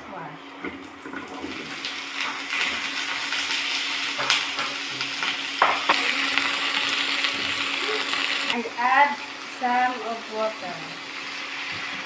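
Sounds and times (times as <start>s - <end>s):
vegetables sizzling in hot oil: 1.1s - 12.0s.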